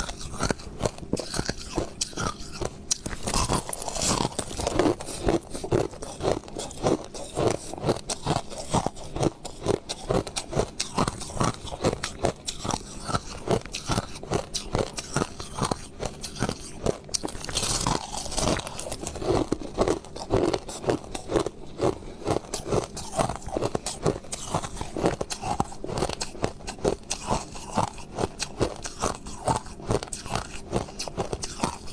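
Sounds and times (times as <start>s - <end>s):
crushed ice being chewed: 0.0s - 31.9s.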